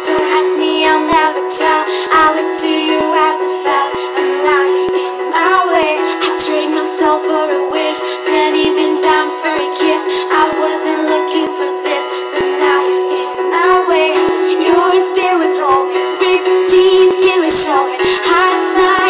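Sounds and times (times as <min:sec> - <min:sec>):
pop song with sung vocals: 0:00.0 - 0:19.0.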